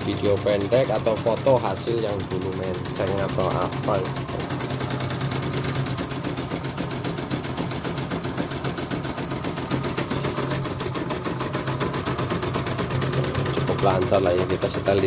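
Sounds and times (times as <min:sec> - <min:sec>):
embroidery machine needle striking: 0:00.0 - 0:15.0
machine motor hum: 0:00.0 - 0:15.0.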